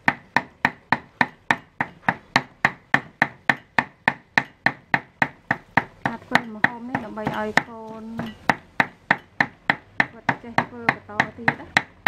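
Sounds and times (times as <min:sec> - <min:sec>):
knife chopping on a board: 0:00.0 - 0:12.0.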